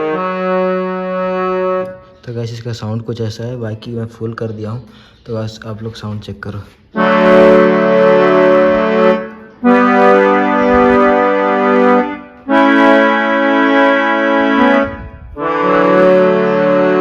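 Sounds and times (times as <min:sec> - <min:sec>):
organ-like keyboard chords: 0:00.0 - 0:17.0.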